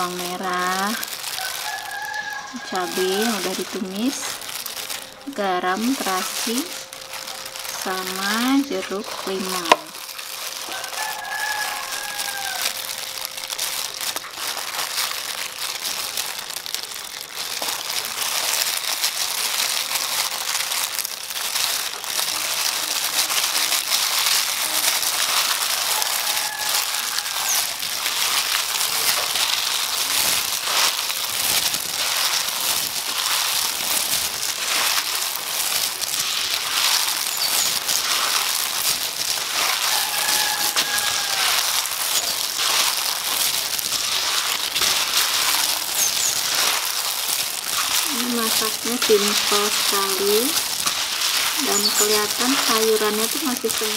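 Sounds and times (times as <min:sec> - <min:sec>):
plastic glove crinkling: 0:00.0 - 0:53.9.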